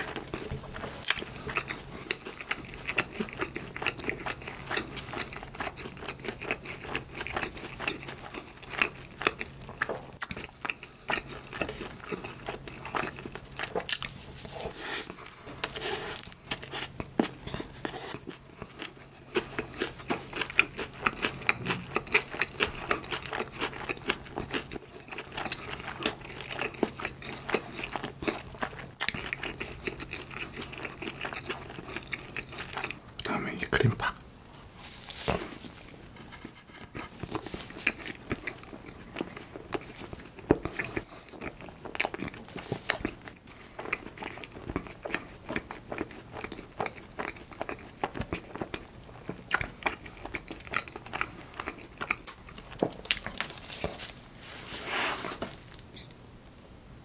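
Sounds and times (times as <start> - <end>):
person chewing bread: 0.0 - 56.2.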